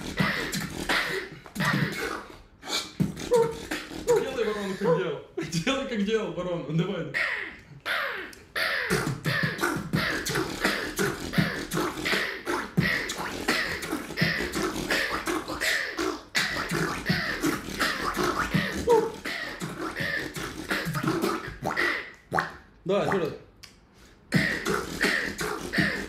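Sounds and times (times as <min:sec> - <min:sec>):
human beatboxing: 0:00.0 - 0:05.0, 0:07.2 - 0:26.0.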